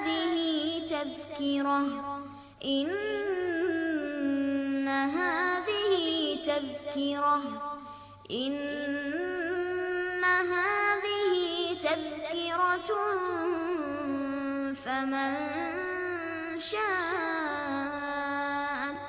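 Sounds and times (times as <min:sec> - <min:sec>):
child reciting melodically: 0:00.0 - 0:19.0.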